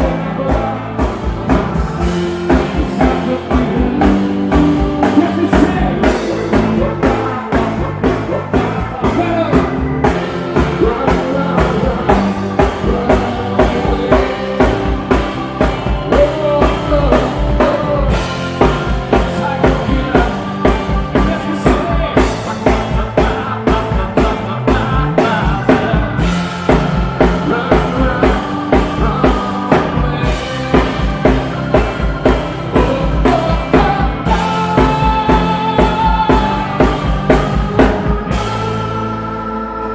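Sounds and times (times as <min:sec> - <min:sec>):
drum kit beat: 0:00.0 - 0:39.6
live rock band playing: 0:00.0 - 0:39.9
person singing: 0:00.0 - 0:39.9.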